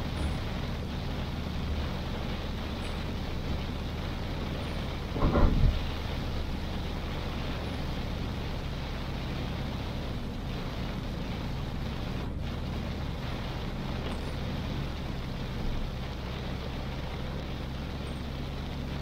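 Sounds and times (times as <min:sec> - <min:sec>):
car driving on wet road: 0:00.0 - 0:19.0
heavy rain hissing: 0:00.0 - 0:19.0.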